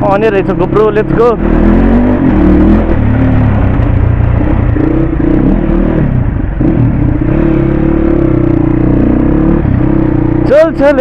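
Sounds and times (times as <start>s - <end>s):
dirt bike engine revving: 0.6s - 11.0s.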